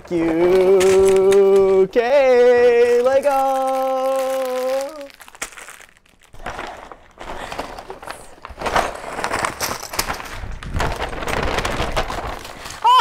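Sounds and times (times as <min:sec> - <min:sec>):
wrapping paper rustling and crinkling: 0:00.0 - 0:13.0.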